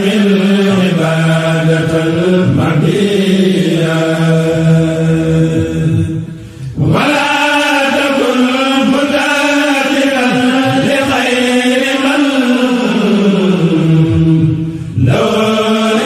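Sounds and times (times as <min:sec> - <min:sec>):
devotional chanting: 0:00.0 - 0:16.0.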